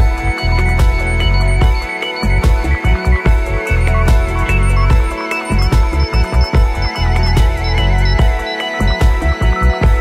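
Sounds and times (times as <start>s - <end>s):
electronic music: 0.0s - 10.0s
heavy pulsing bass: 0.0s - 10.0s.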